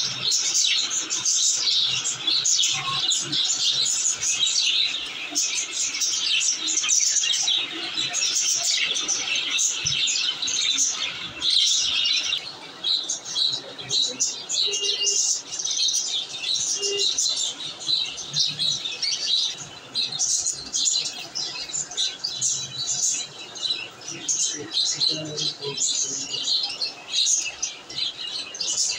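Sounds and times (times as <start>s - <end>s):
budgerigars chirping: 0.0s - 28.9s.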